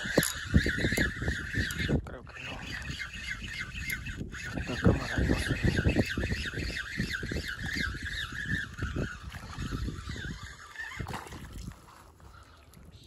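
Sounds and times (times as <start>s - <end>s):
thin wavering chirping: 0.0s - 11.2s.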